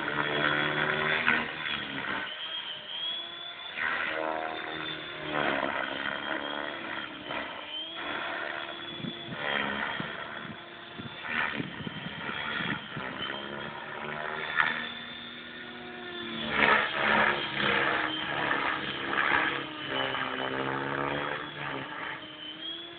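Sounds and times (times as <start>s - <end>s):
model helicopter rotor whine: 0.0s - 22.9s.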